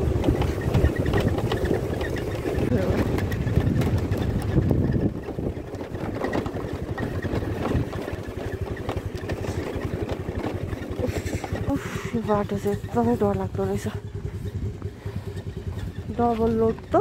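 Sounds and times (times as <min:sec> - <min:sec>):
motor scooter engine running: 0:00.0 - 0:17.0.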